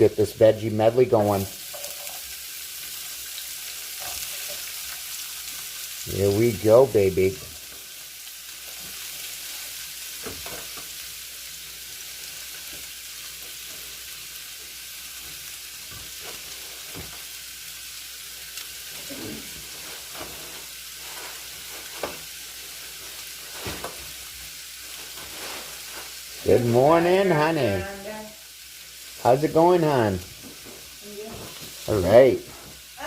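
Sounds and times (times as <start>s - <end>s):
vegetables sizzling in frying pan: 0.0s - 33.0s.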